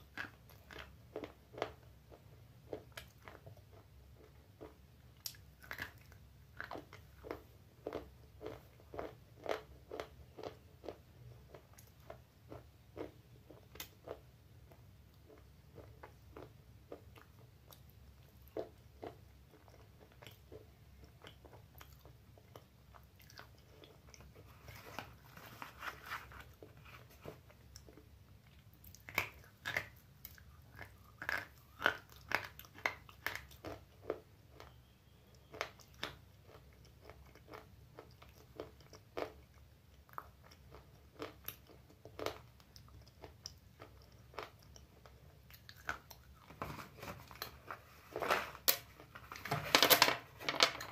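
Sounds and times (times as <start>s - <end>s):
crunching and chewing clay: 0.0s - 49.5s.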